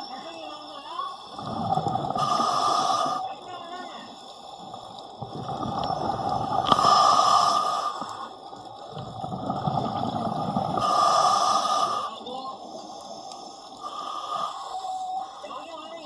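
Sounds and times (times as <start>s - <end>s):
exhaled bubbles gurgling: 0.0s - 14.5s
hissing regulator inhalation: 1.0s - 15.5s.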